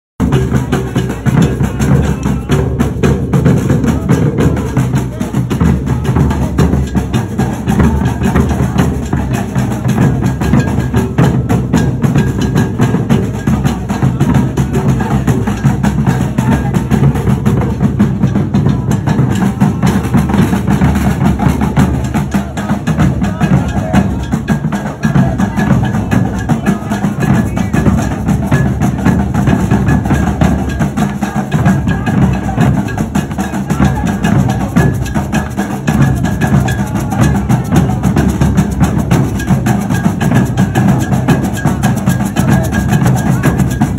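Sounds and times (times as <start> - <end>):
drumming band on bass drums: 0.2 - 43.9.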